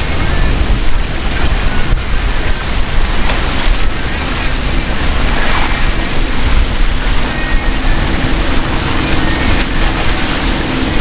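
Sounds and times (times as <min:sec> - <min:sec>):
outboard motor droning: 0:00.0 - 0:11.0
surf and chop hissing: 0:00.0 - 0:11.0
wind buffeting microphone: 0:00.0 - 0:11.0.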